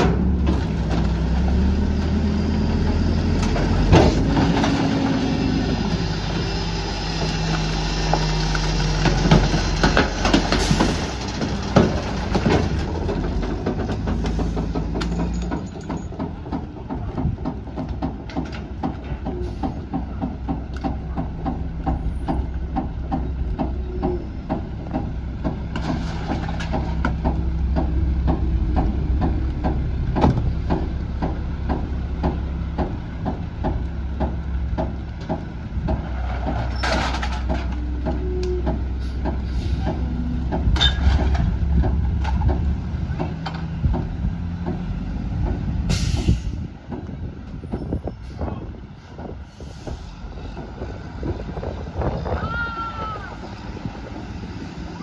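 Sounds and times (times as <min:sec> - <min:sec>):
diesel engine clattering and revving: 0:00.0 - 0:52.4, 0:53.0 - 0:55.0.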